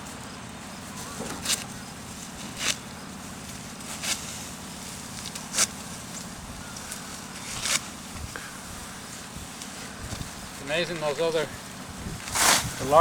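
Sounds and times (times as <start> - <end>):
steady low hum: 0.0 - 13.0
sickle cutting rice stalks: 0.8 - 13.0.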